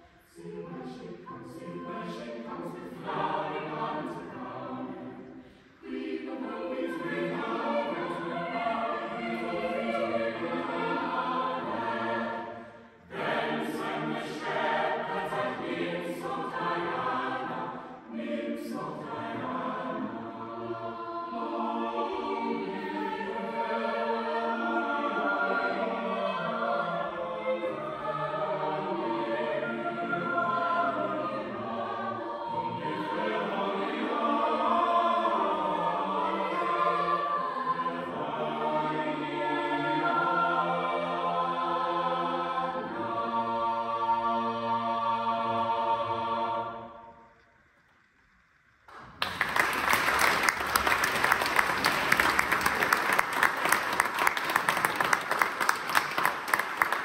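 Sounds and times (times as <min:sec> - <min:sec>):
choir singing unaccompanied: 0:00.0 - 0:47.4, 0:49.4 - 0:57.0.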